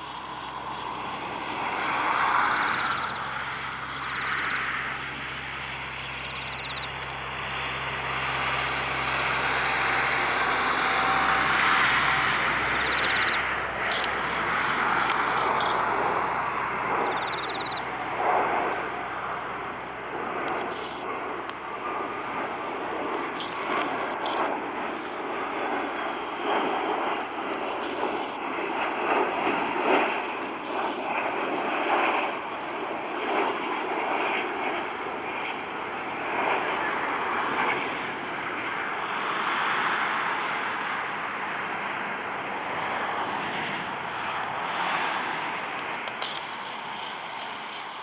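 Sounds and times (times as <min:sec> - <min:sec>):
jet airliner flying overhead: 0:00.0 - 0:48.0.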